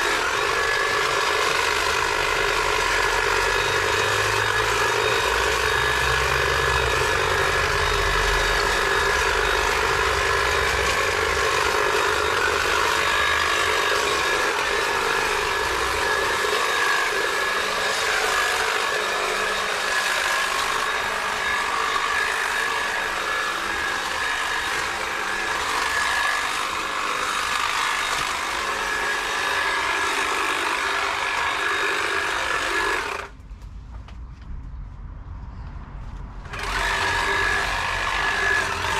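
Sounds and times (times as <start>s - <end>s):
hedge trimmer whining: 0.0s - 33.4s, 36.4s - 38.9s.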